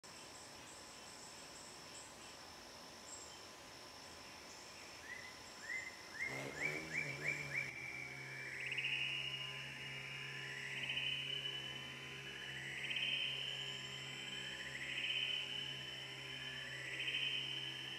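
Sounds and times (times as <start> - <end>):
insects trilling: 0.1 - 17.9
low steady hum: 0.1 - 17.9.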